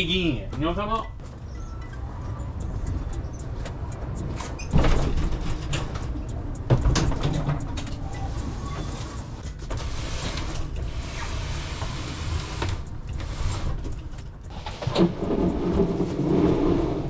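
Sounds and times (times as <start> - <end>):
steady low rumble: 2.0 - 17.0.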